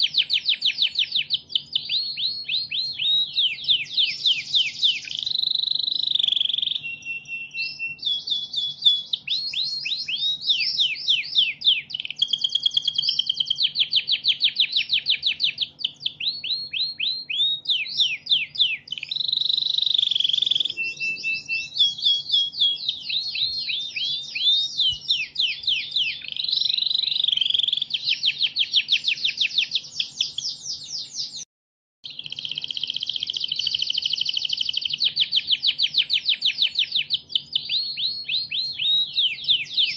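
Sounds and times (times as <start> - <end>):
recorded songbird song: 0.0 - 39.9.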